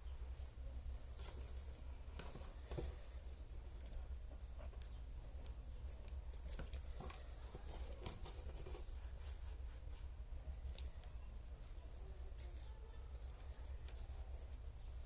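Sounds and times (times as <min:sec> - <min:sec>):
faint high squeaks: 0:00.0 - 0:15.0
low electrical hum: 0:00.0 - 0:15.0.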